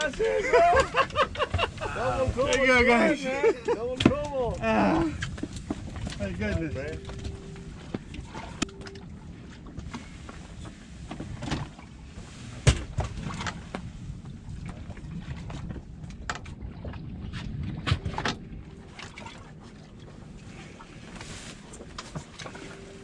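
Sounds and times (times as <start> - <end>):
wind and water against hull: 0.0 - 23.0.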